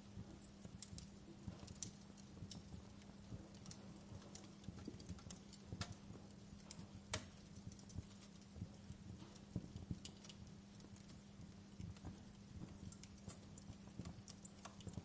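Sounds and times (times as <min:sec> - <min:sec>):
low steady hum: 0:00.0 - 0:15.0
wood fire crackling: 0:00.0 - 0:15.0.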